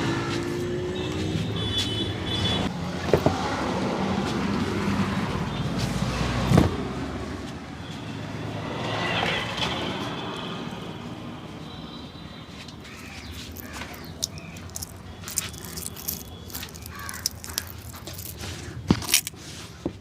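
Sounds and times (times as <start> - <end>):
street traffic passing: 0.0 - 20.0.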